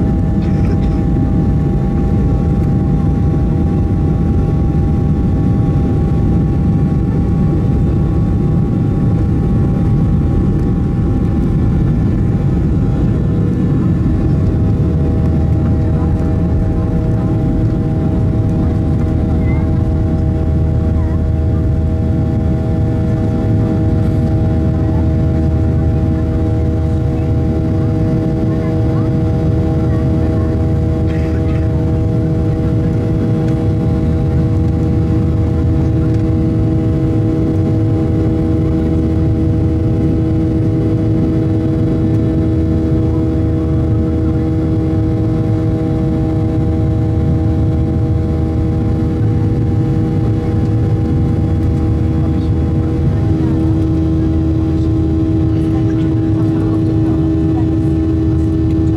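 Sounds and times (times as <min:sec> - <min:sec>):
jet engine drone in cabin: 0:00.0 - 0:58.9.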